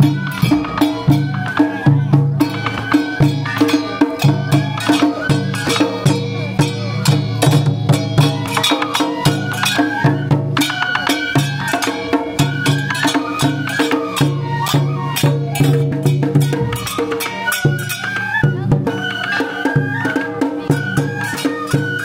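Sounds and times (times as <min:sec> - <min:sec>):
small hand cymbals clashing: 0:00.0 - 0:18.4
bamboo flutes playing melody: 0:00.0 - 0:22.0
drum beats: 0:00.0 - 0:22.0.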